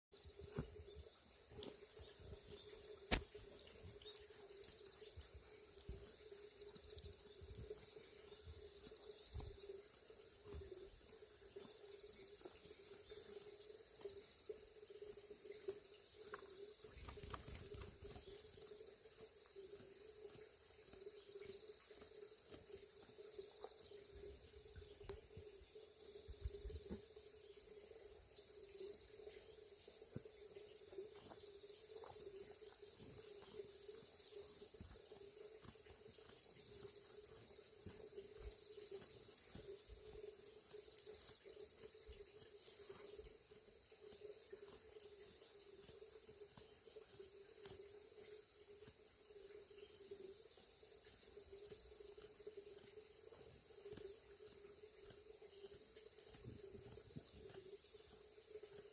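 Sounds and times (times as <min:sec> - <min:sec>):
insects chirping: 0:00.1 - 0:58.9.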